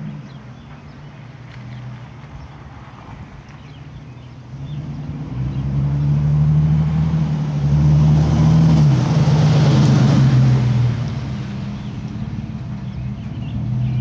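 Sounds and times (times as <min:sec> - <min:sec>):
engine exhaust droning: 0:00.0 - 0:14.0.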